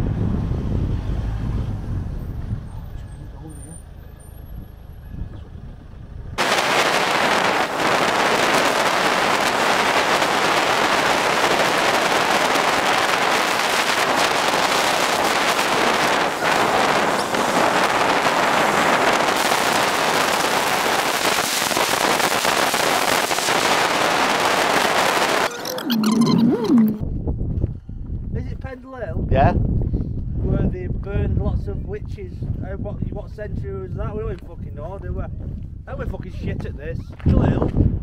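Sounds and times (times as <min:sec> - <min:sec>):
wind and road noise: 0:00.0 - 0:38.0.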